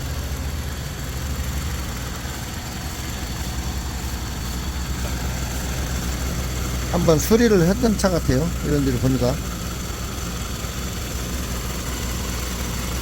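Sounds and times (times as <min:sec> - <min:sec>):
car engine idling: 0:00.0 - 0:13.0
constant hiss: 0:00.0 - 0:13.0.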